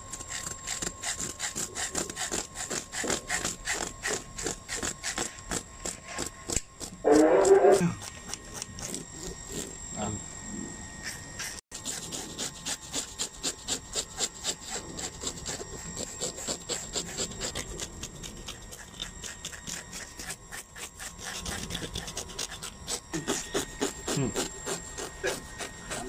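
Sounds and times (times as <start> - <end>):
knife blades scraping scales: 0.0 - 9.8, 11.0 - 26.0.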